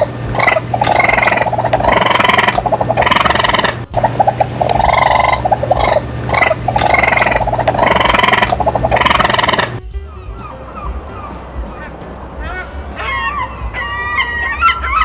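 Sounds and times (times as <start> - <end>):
animal calling with pulsing buzz: 0.0 - 15.0.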